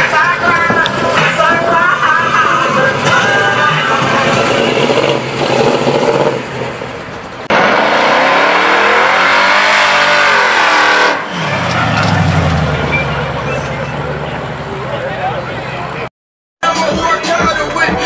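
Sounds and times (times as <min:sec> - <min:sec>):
car engines revving hard: 0:00.0 - 0:16.1.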